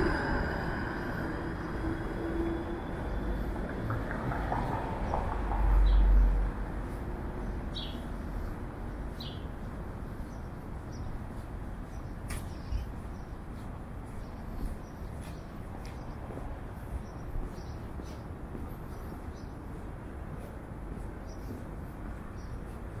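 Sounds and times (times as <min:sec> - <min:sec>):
traffic: 0:00.0 - 0:23.0.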